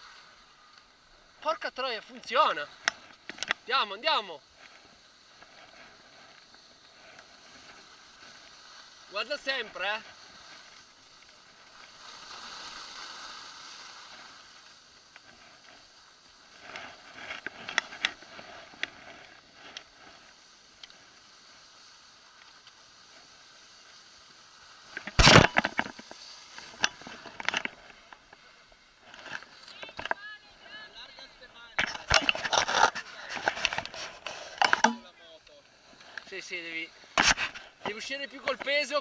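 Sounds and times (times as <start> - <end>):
skis scraping over snow: 0.0 - 39.0.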